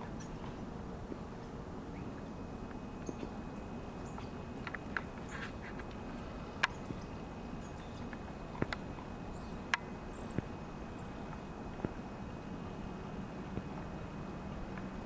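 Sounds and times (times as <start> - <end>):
small birds chirping: 0.0 - 12.9
steady low hiss: 0.0 - 15.0.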